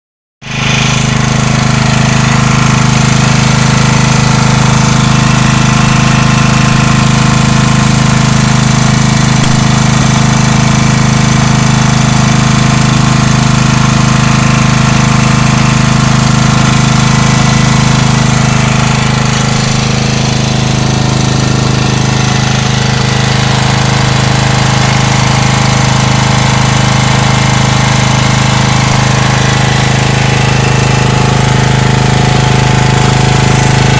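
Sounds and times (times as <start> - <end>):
petrol generator running: 0.4 - 33.9.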